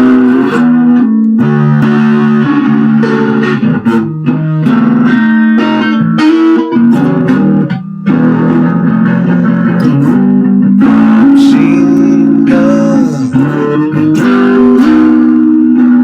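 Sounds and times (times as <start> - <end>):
bass guitar: 0.0 - 16.0
electric guitar sustained notes: 0.0 - 16.0.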